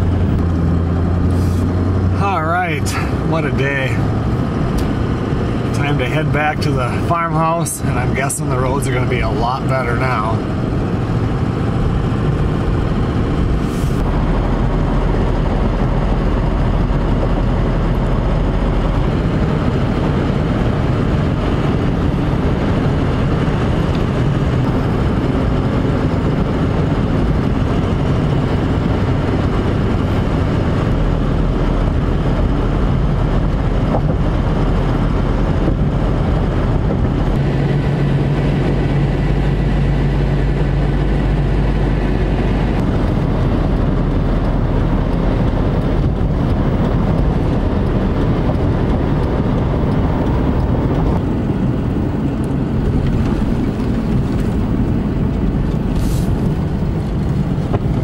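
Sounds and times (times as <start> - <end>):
low engine drone: 0.0 - 58.0
road and engine noise in car: 0.0 - 58.0.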